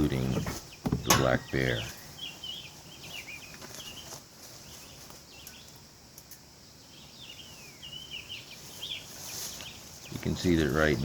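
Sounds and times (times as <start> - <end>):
faint outdoor hiss: 0.0 - 11.0
songbirds chirping: 0.0 - 11.0.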